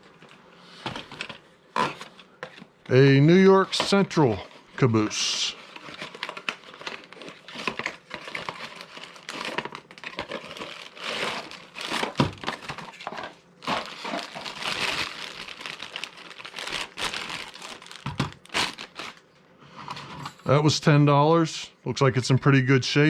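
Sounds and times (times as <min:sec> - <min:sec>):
wrapping crinkling and rustling: 0:00.0 - 0:19.3.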